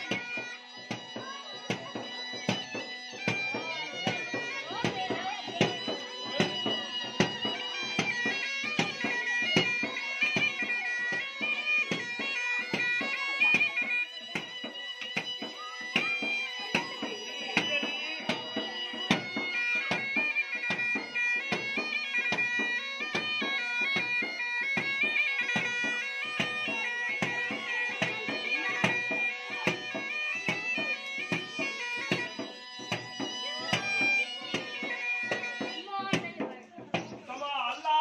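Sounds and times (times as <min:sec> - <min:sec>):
bagpipe melody over drone: 0:00.0 - 0:36.1
small drum beating: 0:00.0 - 0:37.4.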